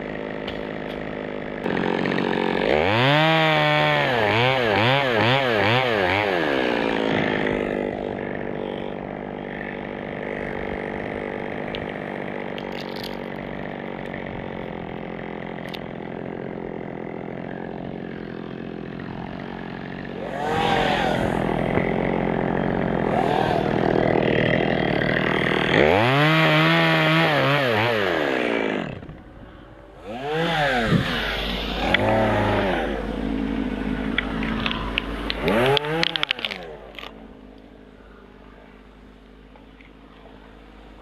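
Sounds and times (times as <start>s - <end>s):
chainsaw revving: 0.0s - 37.6s.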